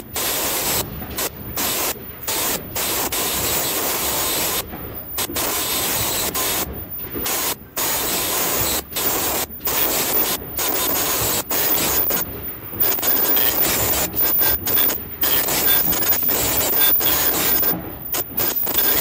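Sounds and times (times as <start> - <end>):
machine hiss and rubbing: 0.0 - 19.0.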